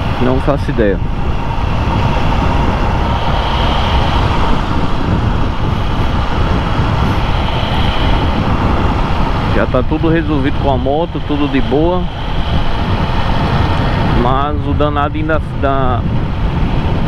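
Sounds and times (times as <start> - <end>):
wind rushing: 0.0 - 17.0.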